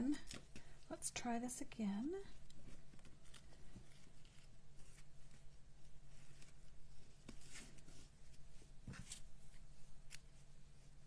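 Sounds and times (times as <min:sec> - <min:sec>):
ribbon and paper rustling: 0:02.0 - 0:11.0.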